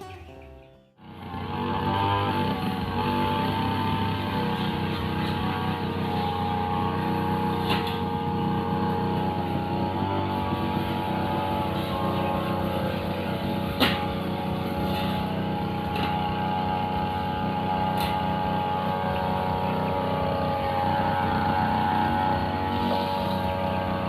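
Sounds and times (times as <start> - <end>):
brushcutter engine cutting grass: 1.0 - 24.0.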